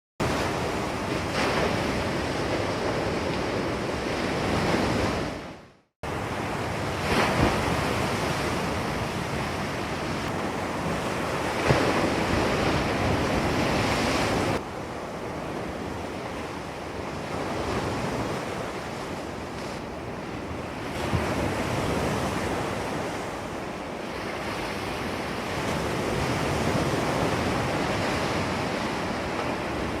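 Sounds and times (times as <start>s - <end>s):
ocean waves crashing: 0.2s - 30.0s.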